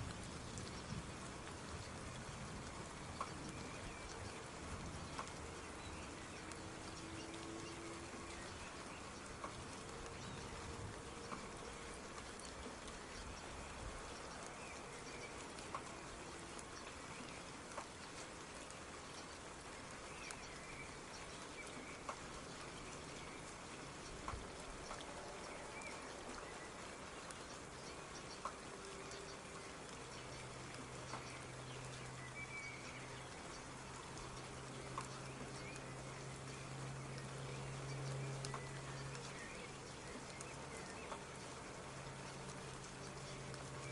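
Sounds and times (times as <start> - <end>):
raindrops tapping: 0.0 - 43.9
soft rain: 0.0 - 43.9.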